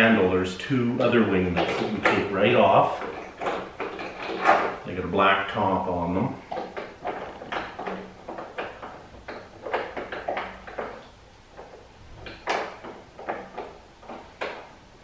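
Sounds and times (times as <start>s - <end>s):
metal handle clicks and rattles: 1.0s - 14.8s.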